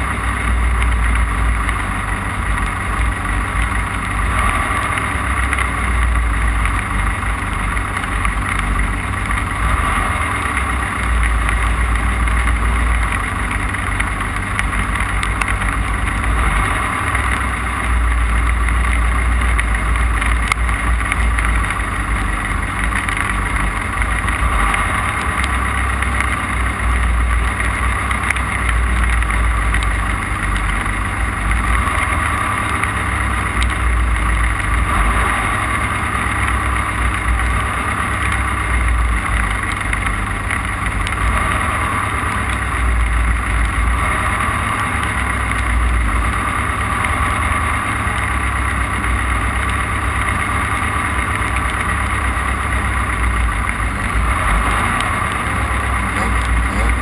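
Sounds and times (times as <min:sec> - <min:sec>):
heavy rumble over rough ground: 0:00.0 - 0:57.0
race car engine droning: 0:00.0 - 0:57.0.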